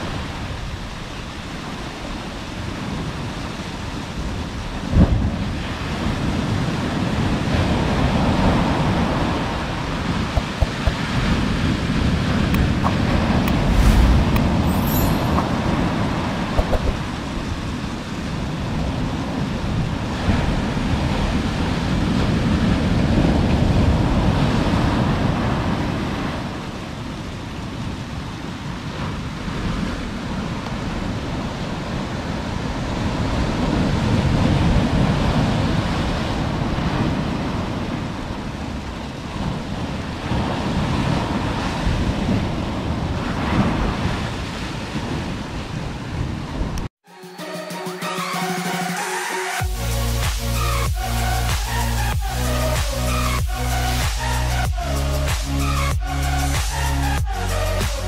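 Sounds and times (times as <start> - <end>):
ocean surf breaking on sand: 0.0 - 46.8
wind rumbling on microphone: 0.0 - 46.9.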